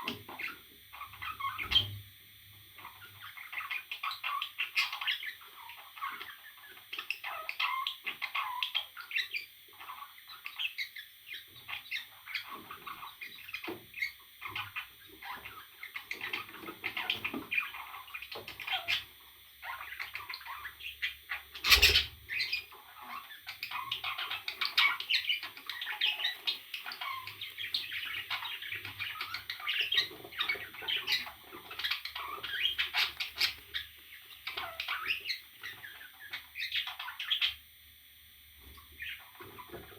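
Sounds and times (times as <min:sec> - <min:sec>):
parrot chirping and squawking: 0:00.0 - 0:02.0, 0:02.8 - 0:37.6, 0:38.8 - 0:39.9.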